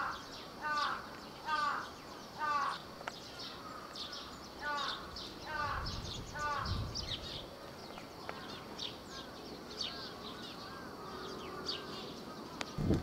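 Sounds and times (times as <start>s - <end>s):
arched bird calls: 0.0s - 13.0s
birds chirping: 0.0s - 13.0s.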